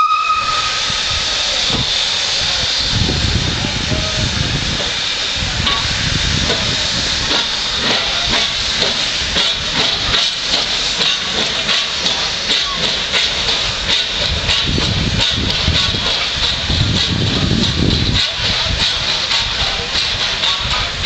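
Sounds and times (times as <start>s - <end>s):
steam hissing: 0.0s - 21.0s.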